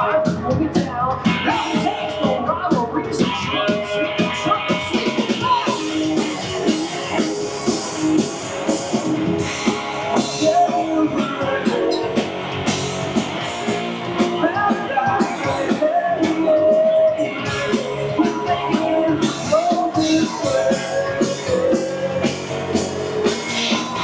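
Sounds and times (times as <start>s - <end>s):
drum kit beat: 0.0s - 24.0s
electric bass: 0.0s - 24.0s
electric guitars: 0.0s - 24.0s.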